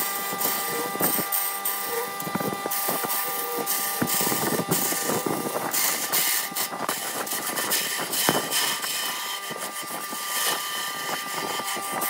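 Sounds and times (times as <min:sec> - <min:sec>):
gouge scraping wood on lathe: 0:00.0 - 0:12.0
lathe humming: 0:00.0 - 0:12.0.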